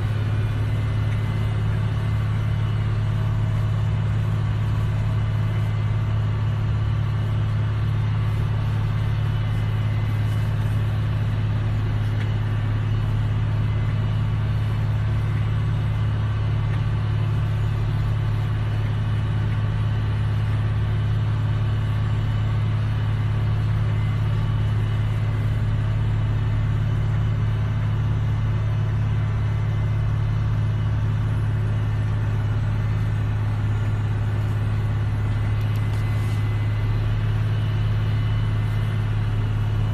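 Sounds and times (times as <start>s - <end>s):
high machinery whine: 0.0s - 39.9s
low engine drone: 0.0s - 39.9s.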